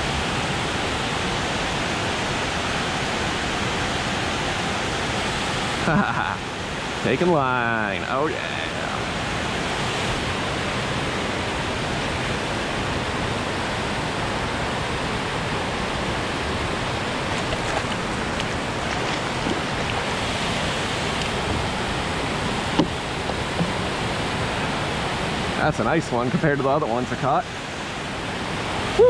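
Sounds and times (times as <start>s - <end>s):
water rushing over a spillway: 0.0s - 29.0s.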